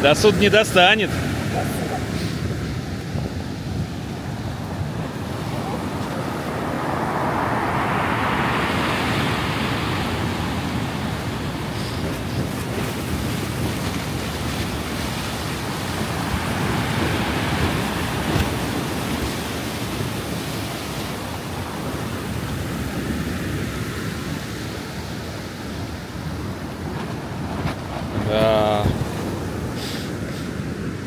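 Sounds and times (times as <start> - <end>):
surf breaking and washing: 0.0 - 31.0
wind on microphone: 1.1 - 31.0.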